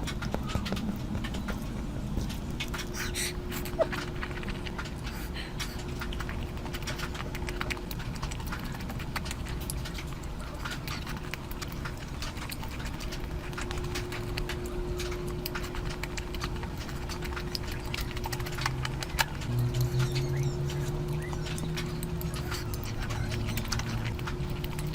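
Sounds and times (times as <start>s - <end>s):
chewing with wet mouth clicks: 0.0s - 24.9s.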